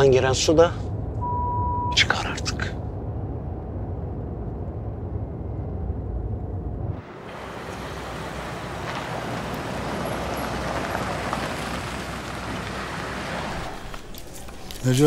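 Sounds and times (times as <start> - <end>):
car driving slowly: 0.0 - 15.0.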